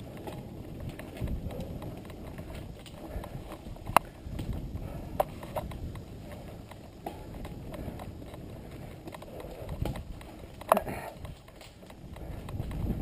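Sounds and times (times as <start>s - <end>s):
bike tyres rumbling on dirt: 0.0s - 13.0s.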